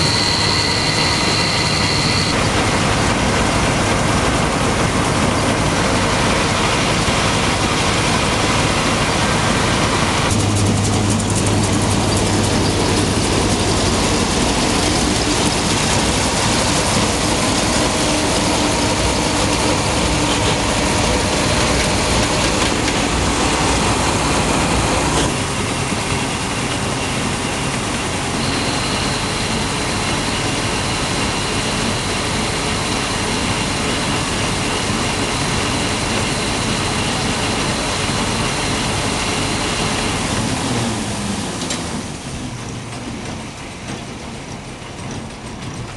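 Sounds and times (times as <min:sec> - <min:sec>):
combine harvester mechanical clatter: 0:00.0 - 0:45.9.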